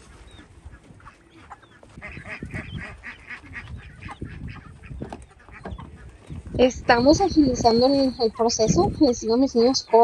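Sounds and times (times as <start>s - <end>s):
ducks quacking: 0.0s - 10.0s
poultry calling: 0.0s - 10.0s.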